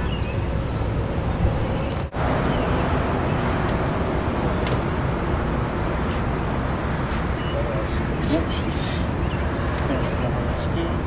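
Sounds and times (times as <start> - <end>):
low rumble and hiss outdoors: 0.0 - 11.0.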